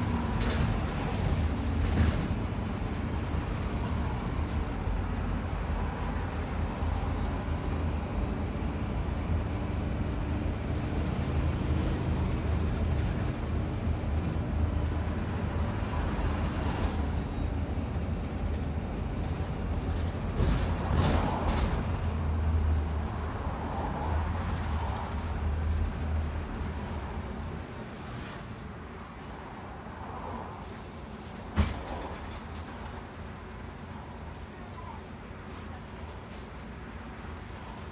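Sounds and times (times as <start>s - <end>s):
bus engine and road rumble: 0.0s - 37.9s.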